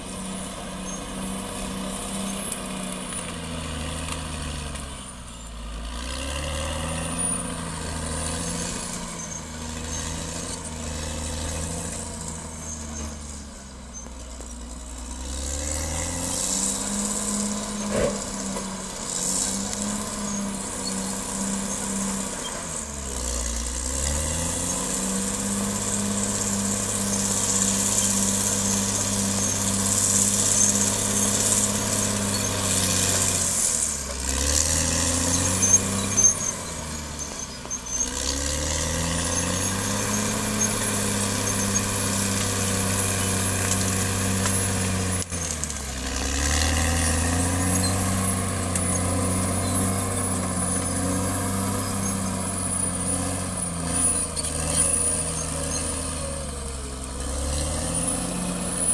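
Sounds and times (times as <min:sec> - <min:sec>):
bulldozer diesel engine running hard: 0:00.0 - 0:58.9.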